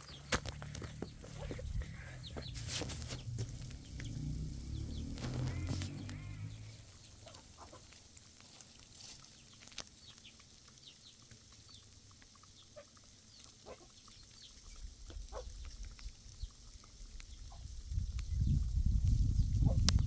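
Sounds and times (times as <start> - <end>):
low cluck-like bird calls: 0.0 - 8.0, 9.2 - 20.0.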